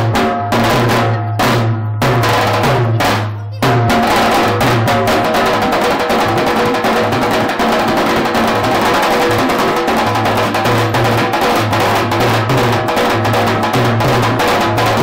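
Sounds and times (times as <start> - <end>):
dhol drums beating: 0.0 - 15.0.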